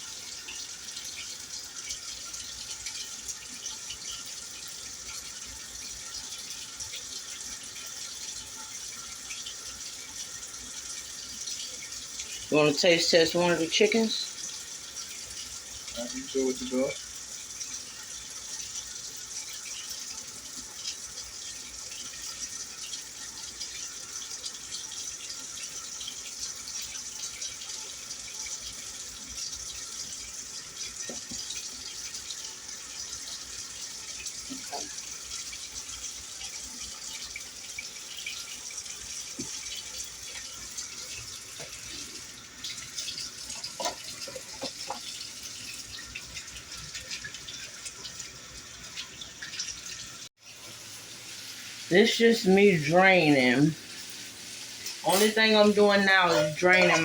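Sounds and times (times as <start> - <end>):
chicken sizzling in hot oil: 0.0 - 57.0.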